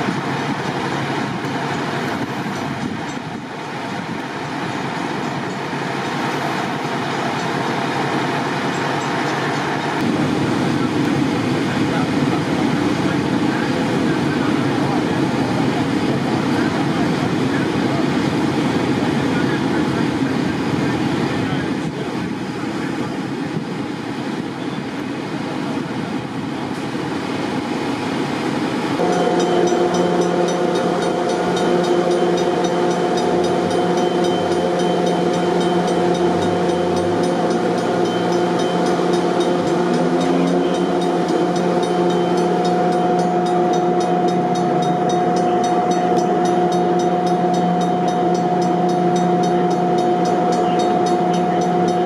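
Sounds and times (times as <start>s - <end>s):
electric train humming: 0.0s - 52.0s
outdoor background noise: 0.0s - 52.0s.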